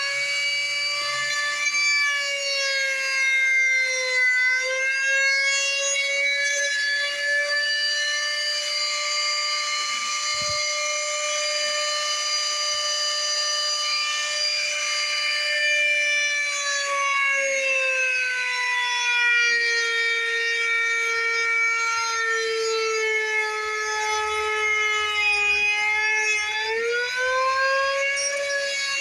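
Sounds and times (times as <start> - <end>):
electric router whining: 0.0 - 29.0.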